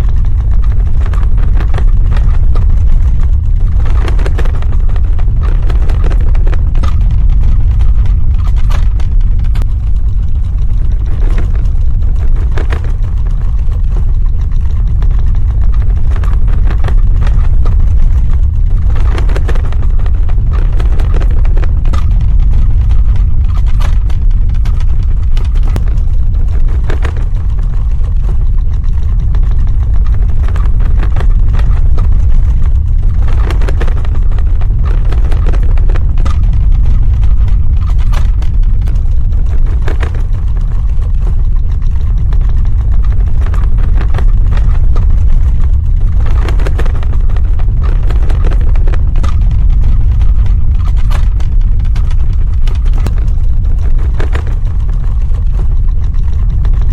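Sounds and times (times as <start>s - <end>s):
crackling and rattling: 0.0s - 56.9s
earthquake deep rumble: 0.0s - 56.9s.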